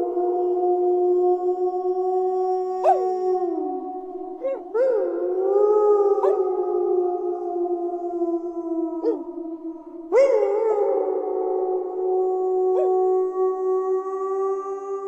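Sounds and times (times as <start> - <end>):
wolf howling: 0.0 - 15.0.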